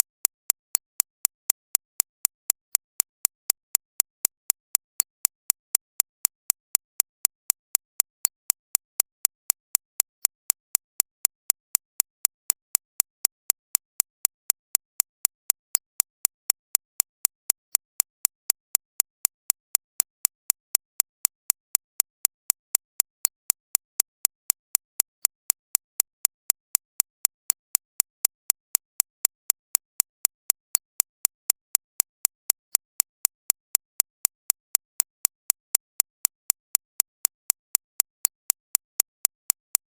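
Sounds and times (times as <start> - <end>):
sharp evenly spaced clicks: 0.0 - 39.9.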